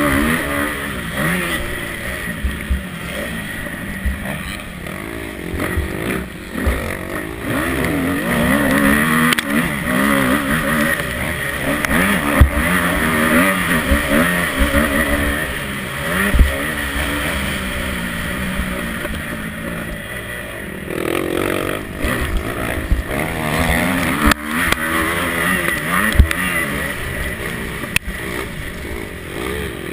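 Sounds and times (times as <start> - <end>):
motocross bike engine revving: 0.0 - 29.9.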